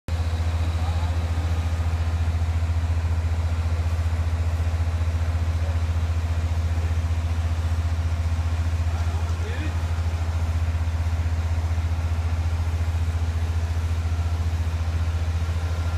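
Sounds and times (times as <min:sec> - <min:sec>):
engine idling: 0:00.1 - 0:15.9.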